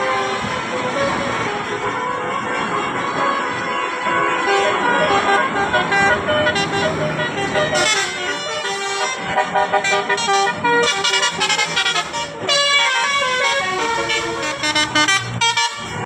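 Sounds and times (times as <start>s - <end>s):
musical air horn playing a tune: 0.0s - 16.0s.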